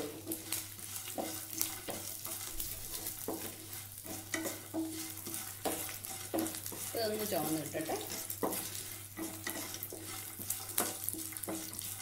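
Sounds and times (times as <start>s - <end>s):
oil sizzling: 0.0s - 12.0s
wooden spatula scraping a pan: 0.0s - 12.0s.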